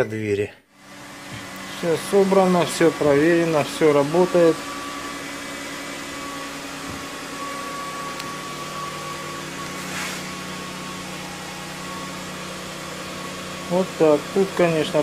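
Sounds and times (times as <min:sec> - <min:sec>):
steady machine hum: 0:00.7 - 0:15.0.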